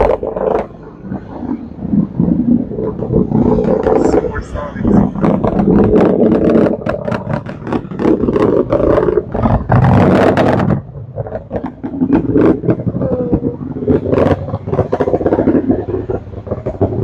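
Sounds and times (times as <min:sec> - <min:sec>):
distant rocket engine rumble: 0:00.0 - 0:17.0.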